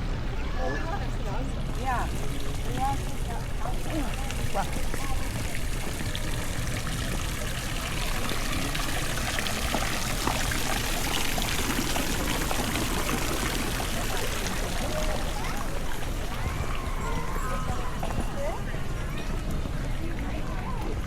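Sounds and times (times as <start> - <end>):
running water splashing: 1.7 - 21.0.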